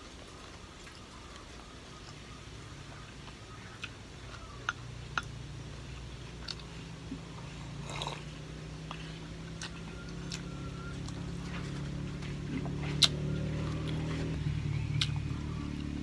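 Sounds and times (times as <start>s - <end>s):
wet chewing: 0.0s - 15.9s
steady low hum: 0.0s - 16.0s.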